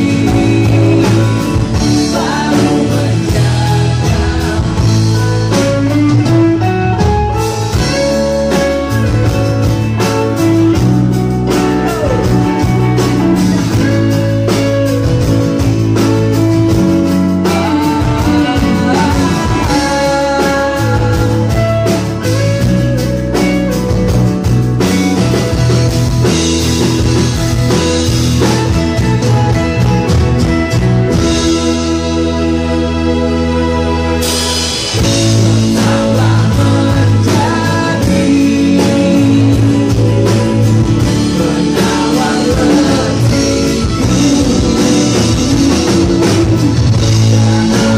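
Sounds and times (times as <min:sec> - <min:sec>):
bass guitar: 0:00.0 - 0:47.9
drums: 0:00.0 - 0:47.9
electric guitar lead with bent notes: 0:00.0 - 0:47.9
strummed acoustic guitar: 0:00.0 - 0:47.9.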